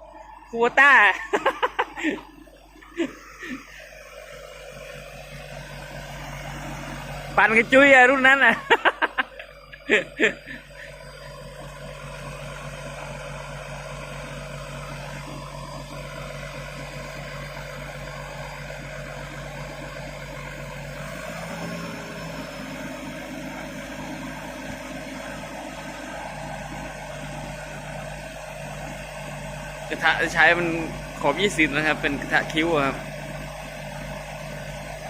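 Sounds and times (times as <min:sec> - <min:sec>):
diesel truck engine humming: 0:00.0 - 0:35.0.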